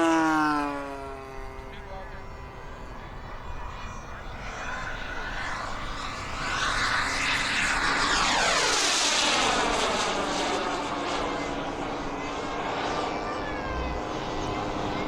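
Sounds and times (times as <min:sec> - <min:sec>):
model airplane engine flying past: 0:00.0 - 0:15.0.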